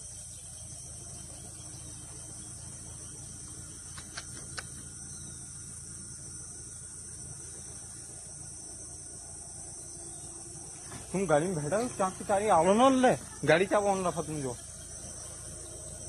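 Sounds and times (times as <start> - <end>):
high-pitched insect chorus drone: 0.0 - 16.0.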